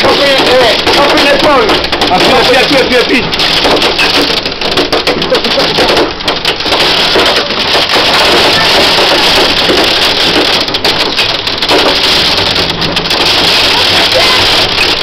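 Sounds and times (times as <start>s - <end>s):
heavy rain beating on a window: 0.0s - 15.0s.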